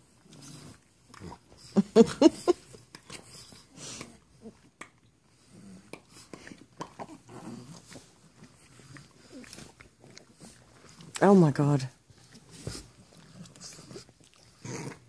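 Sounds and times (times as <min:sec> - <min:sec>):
puppies sniffing and breathing: 0:00.0 - 0:15.0.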